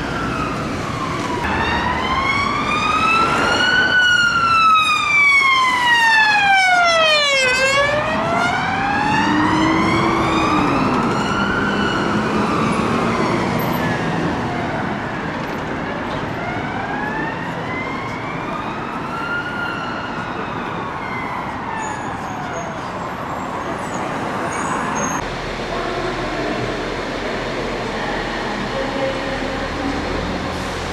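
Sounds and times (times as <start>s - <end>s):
emergency vehicle siren wailing: 0.0s - 25.2s
traffic noise: 0.0s - 30.9s.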